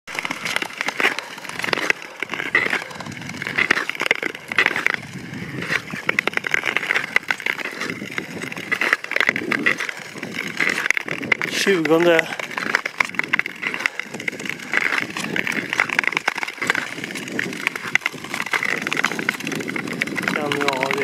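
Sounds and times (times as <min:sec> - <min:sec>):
frost crystals crackling: 0:00.1 - 0:21.0
ice skates scraping on ice: 0:00.1 - 0:21.0.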